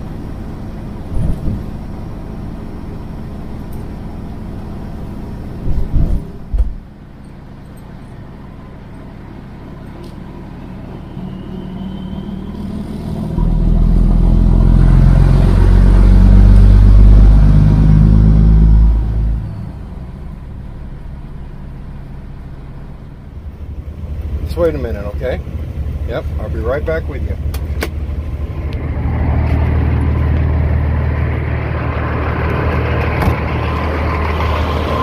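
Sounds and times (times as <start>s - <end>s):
diesel truck engine droning: 0.0s - 35.0s.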